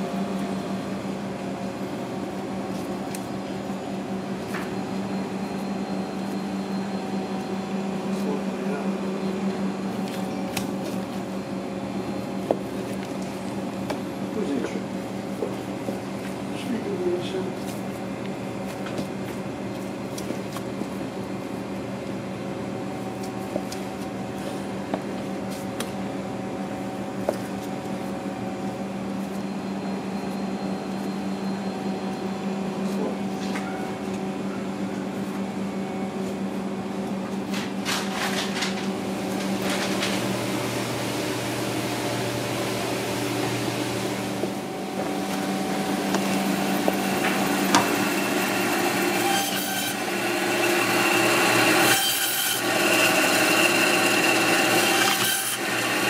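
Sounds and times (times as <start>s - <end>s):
kitchen machine hum: 0.0s - 56.0s.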